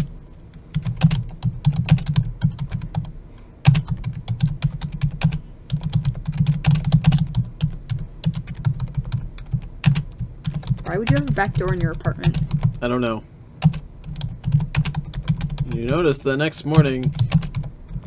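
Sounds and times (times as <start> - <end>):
typing on computer keyboard: 0.7 - 12.8, 13.6 - 16.1, 16.7 - 18.0.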